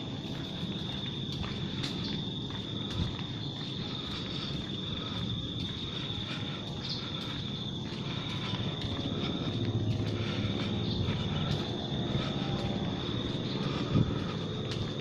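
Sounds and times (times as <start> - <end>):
footsteps ticking: 0.0 - 15.0
high-pitched insect trill: 0.0 - 15.0.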